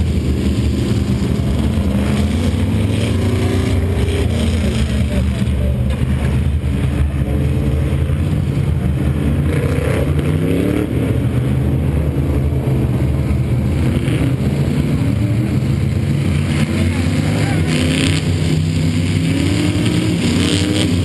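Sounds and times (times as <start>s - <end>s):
race car engines accelerating: 0.0s - 21.0s.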